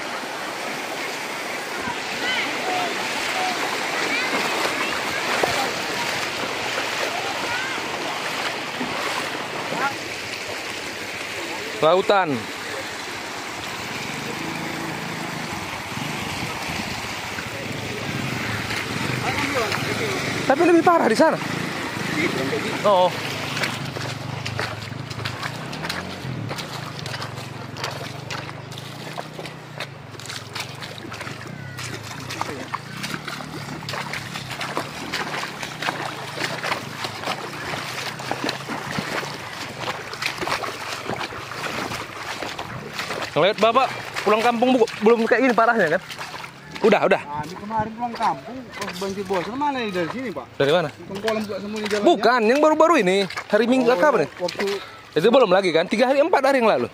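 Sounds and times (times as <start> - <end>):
floodwater rushing: 0.0 - 56.9
footsteps wading through water: 0.0 - 56.9.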